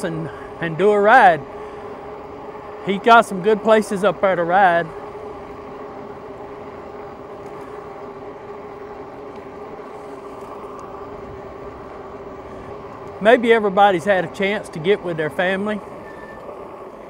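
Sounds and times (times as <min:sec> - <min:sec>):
electric bike motor hum: 0:00.0 - 0:17.0
road and wind rumble: 0:00.0 - 0:17.0.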